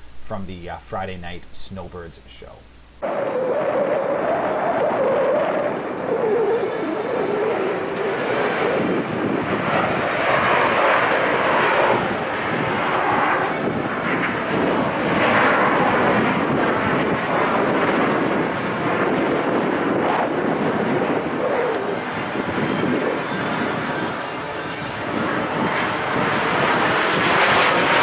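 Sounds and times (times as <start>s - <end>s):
jet aircraft passing: 3.0s - 28.0s.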